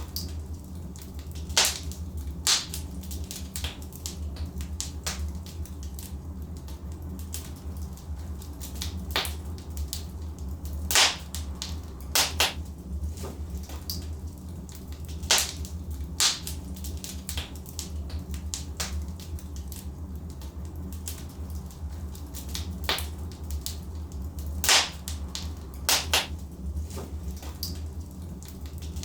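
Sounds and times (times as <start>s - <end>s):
logs crackling in fireplace: 0.0s - 29.0s
low rumble of fire: 0.0s - 29.0s.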